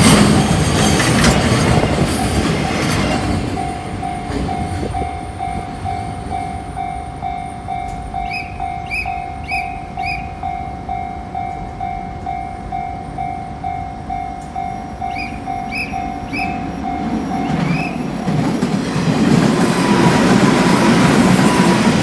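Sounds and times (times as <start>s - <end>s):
train rumbling past: 0.0s - 22.0s
level crossing warning bell ringing: 3.5s - 22.0s.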